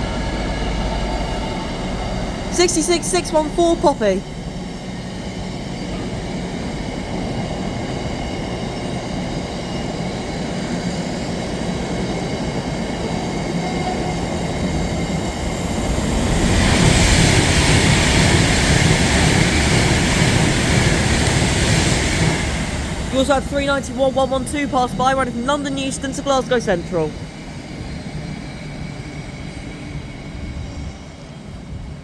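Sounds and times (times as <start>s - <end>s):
electric train rushing past: 0.0s - 32.0s
freight train wheels rumbling on rails: 0.0s - 32.0s.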